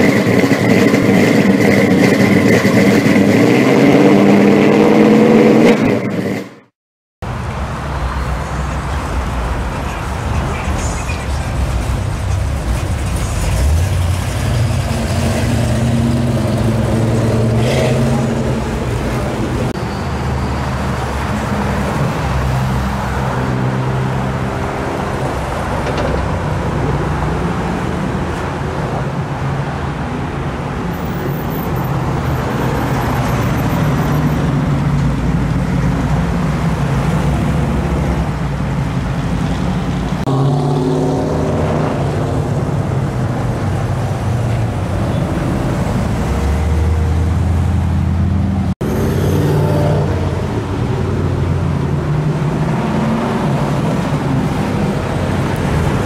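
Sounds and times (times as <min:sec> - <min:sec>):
street traffic noise: 0:00.0 - 0:56.0
car engines rumbling past: 0:07.3 - 0:56.0.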